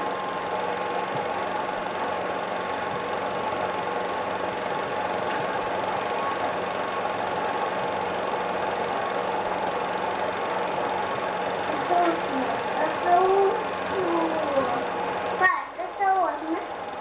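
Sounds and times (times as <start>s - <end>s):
faint high whine: 0.0s - 16.4s
machine whirring and humming: 0.0s - 17.0s.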